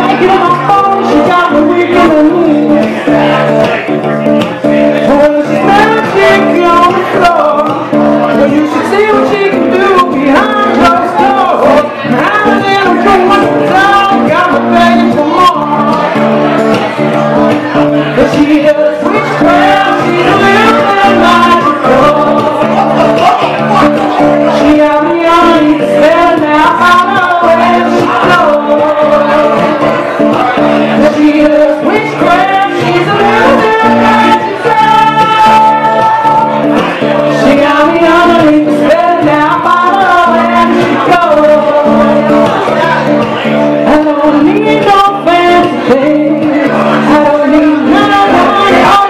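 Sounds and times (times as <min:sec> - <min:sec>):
acoustic guitar: 0:00.0 - 0:49.0
person singing: 0:00.0 - 0:49.0.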